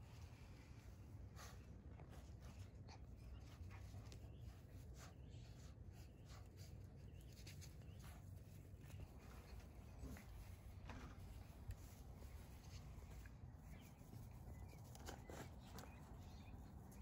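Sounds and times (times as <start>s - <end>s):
puppy rustling in grass: 0.0s - 17.0s.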